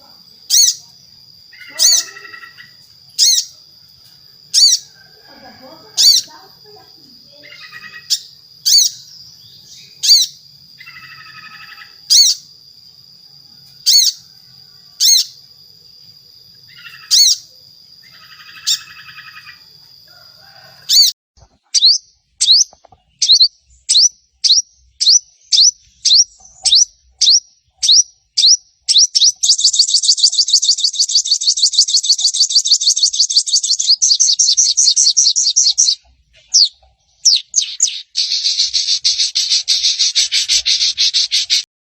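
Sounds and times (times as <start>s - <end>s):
sunbird singing: 0.0s - 41.7s.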